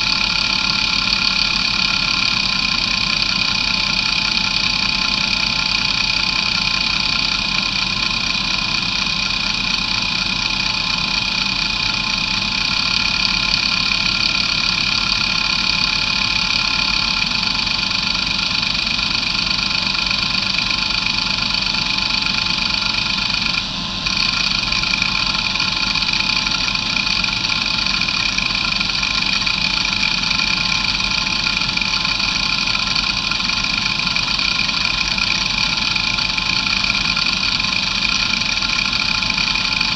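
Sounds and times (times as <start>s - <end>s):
hard drive whine and hiss: 0.0s - 39.9s.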